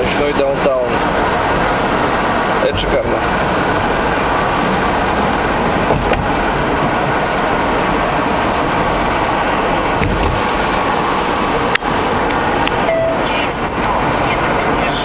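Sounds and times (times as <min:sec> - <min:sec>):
road and tyre noise: 0:00.0 - 0:15.0.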